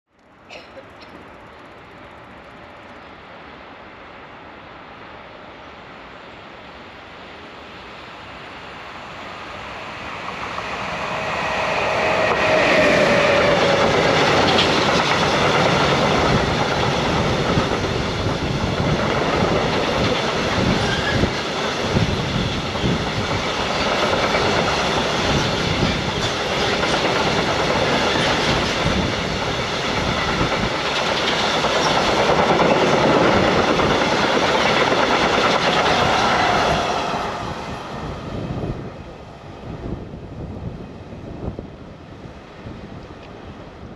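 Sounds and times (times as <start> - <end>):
freight train rattling past: 6.9 - 43.0.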